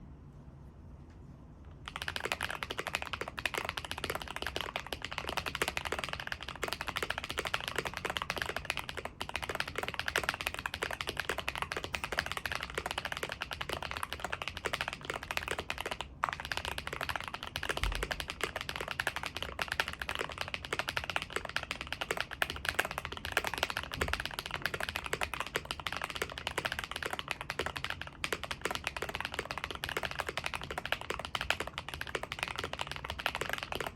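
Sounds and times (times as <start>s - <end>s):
mechanical keyboard typing: 1.8s - 33.9s.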